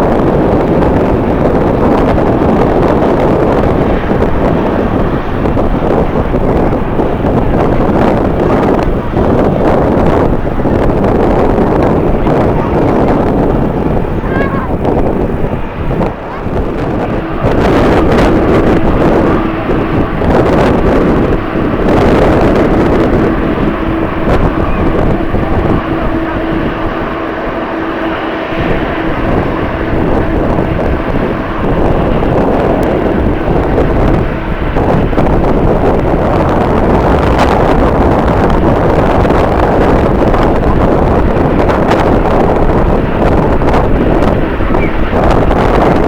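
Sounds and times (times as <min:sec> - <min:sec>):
jet engines running: 0:00.0 - 0:46.0
wind buffeting microphone: 0:00.0 - 0:46.0.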